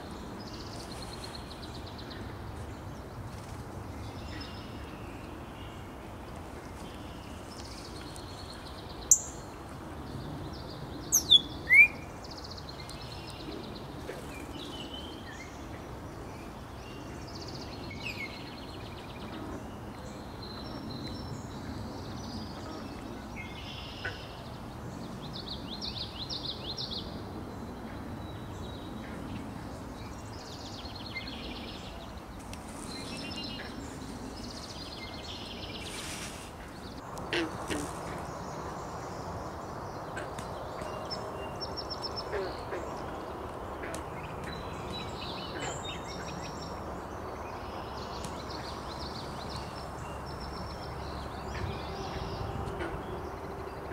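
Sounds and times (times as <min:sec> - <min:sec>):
songbirds calling and singing: 0:00.0 - 0:53.9.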